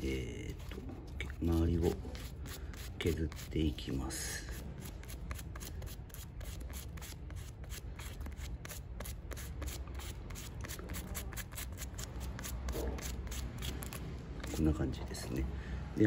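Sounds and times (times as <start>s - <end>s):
sandpaper rubbing on rubber: 1.3s - 14.7s.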